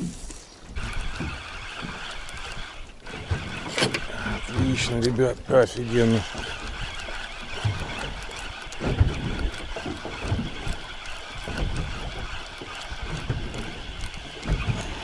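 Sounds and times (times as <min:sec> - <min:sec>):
water around boat: 0:00.0 - 0:15.0.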